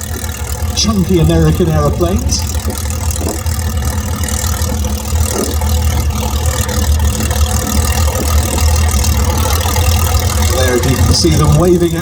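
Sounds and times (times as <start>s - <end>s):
aircraft engines idling: 0.0s - 12.0s.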